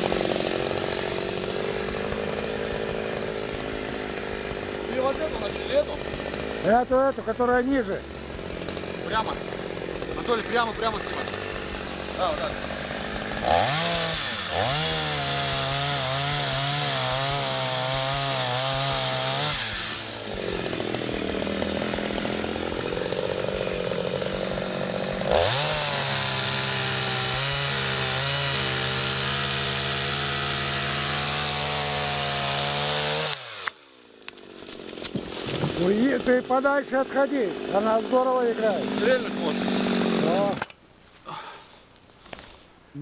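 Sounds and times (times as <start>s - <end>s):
chainsaw cutting tree trunk: 0.0s - 41.4s.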